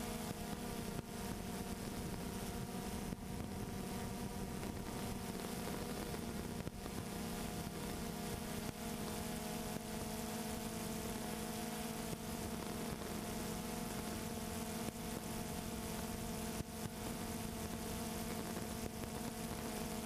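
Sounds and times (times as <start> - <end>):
drone motors humming: 0.0 - 20.0.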